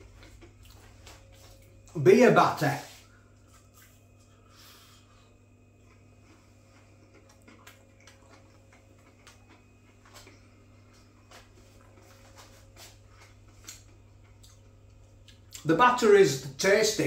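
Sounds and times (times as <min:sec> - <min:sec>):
crunchy chewing: 0:00.0 - 0:02.0, 0:03.2 - 0:15.7
steady low hum: 0:00.0 - 0:17.0.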